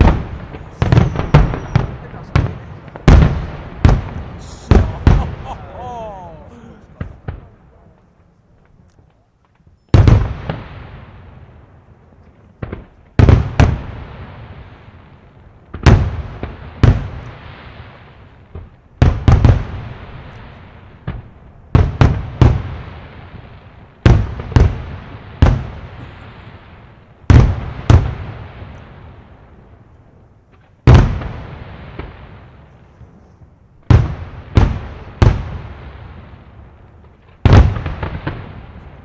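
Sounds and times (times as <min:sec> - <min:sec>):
fireworks bursting with loud bangs: 0:00.0 - 0:39.0.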